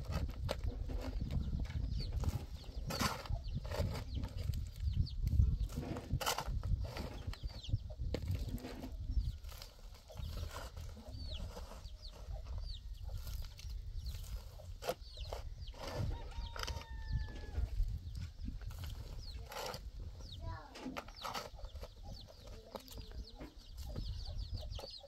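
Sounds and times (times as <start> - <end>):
shovel scraping stony ground: 0.0 - 4.7, 5.5 - 7.6, 8.2 - 12.4, 13.1 - 23.1
chickens clucking: 0.0 - 25.0
chicks peeping: 0.0 - 25.0.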